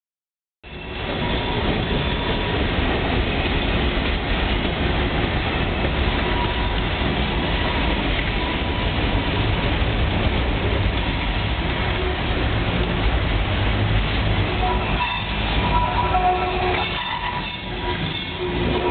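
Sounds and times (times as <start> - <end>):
train wheels rumbling on rail: 0.6 - 18.9.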